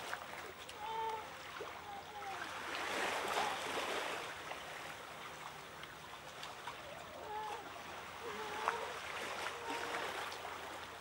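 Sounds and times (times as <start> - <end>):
water lapping over ledge: 0.0 - 11.0.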